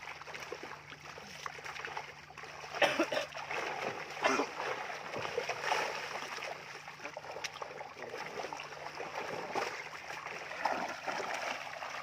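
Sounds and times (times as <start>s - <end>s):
pond water sloshing and splashing: 0.0s - 12.0s.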